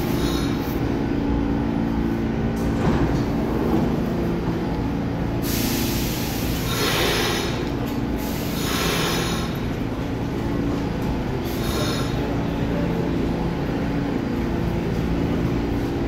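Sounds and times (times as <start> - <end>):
hissing wheel-on-rail noise: 0.0 - 16.0
subway train rumble: 0.0 - 16.0.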